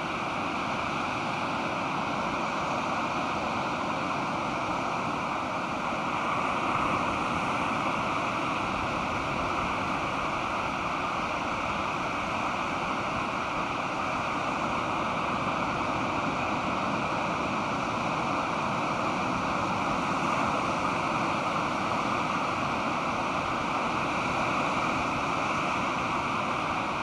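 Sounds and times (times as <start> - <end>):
surf washing on beach: 0.0 - 27.0.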